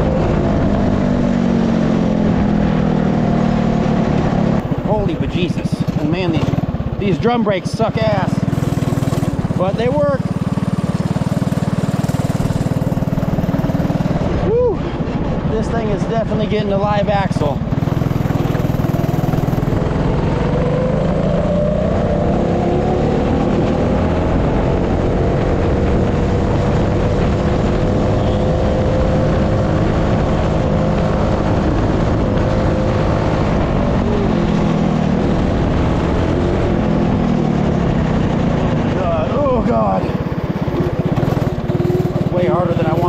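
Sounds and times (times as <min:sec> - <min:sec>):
go-kart engine running hard: 0:00.0 - 0:43.0.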